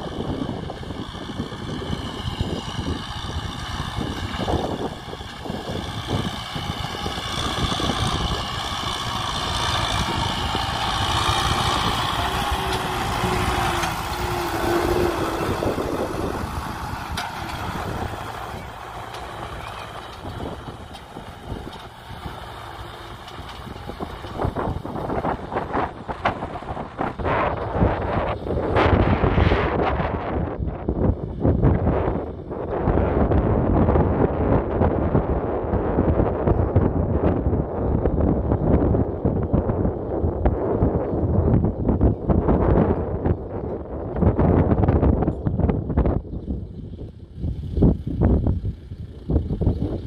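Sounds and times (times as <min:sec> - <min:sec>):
tractor diesel engine under load: 0:00.0 - 0:50.0.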